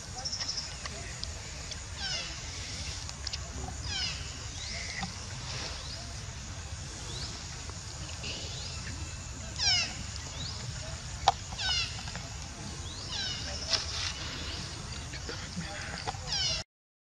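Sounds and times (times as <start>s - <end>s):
steady low rumble: 0.0s - 16.3s.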